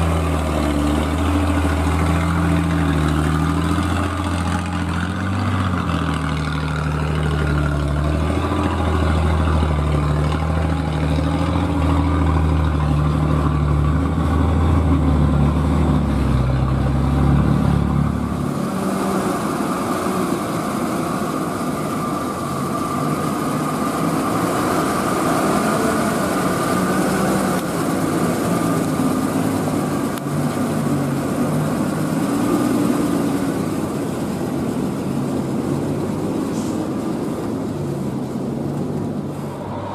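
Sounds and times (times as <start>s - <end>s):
truck driving on gravel road: 0.0s - 39.9s
truck engine running: 0.0s - 39.9s.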